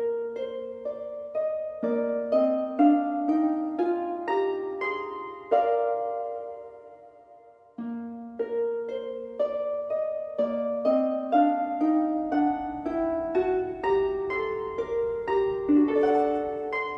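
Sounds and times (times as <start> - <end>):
plucked harp-like notes: 0.0 - 16.9.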